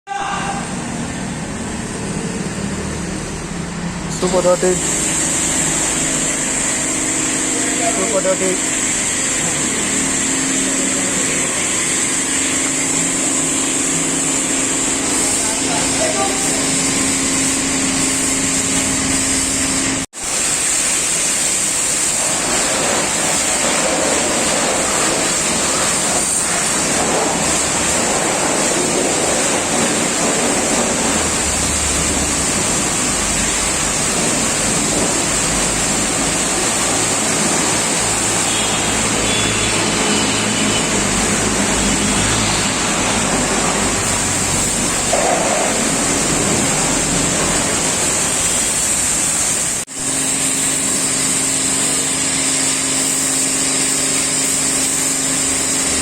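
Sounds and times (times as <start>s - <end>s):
high-pressure water jet spraying: 0.6s - 56.0s.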